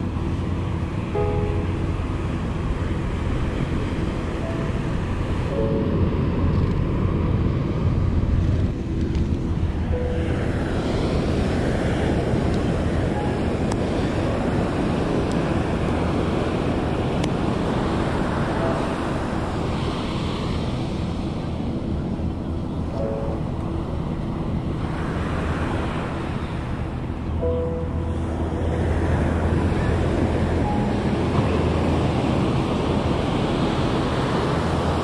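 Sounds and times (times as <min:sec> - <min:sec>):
surf washing on a beach: 0:00.0 - 0:35.0
wind rumbling on microphone: 0:00.0 - 0:35.0.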